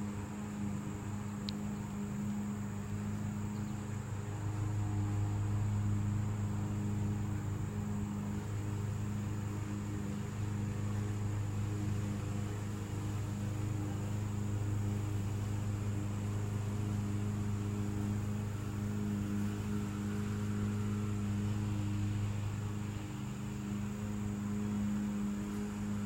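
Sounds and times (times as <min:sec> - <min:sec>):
faint hiss: 0:00.0 - 0:26.0
steady low hum: 0:00.0 - 0:26.0.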